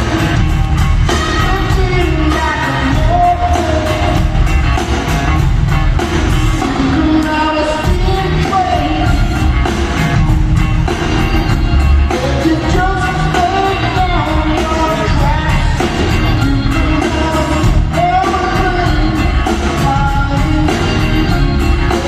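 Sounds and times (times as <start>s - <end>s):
lead vocal singing: 0.0s - 4.6s, 6.4s - 9.7s, 12.0s - 22.0s
live rock band playing: 0.0s - 22.0s
steady drum beat: 0.0s - 22.0s.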